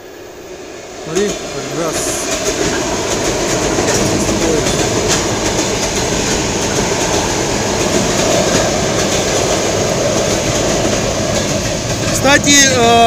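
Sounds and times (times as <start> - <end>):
train wheels rumbling on rails: 0.0 - 13.0
wheels clicking over rail joints: 1.1 - 13.0.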